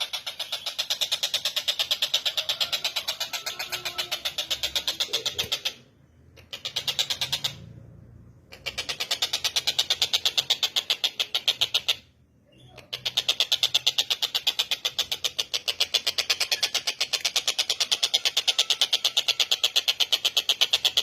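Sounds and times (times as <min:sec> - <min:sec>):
bird calling rapid sharp notes: 0:00.0 - 0:07.7, 0:08.5 - 0:12.1, 0:12.8 - 0:21.0.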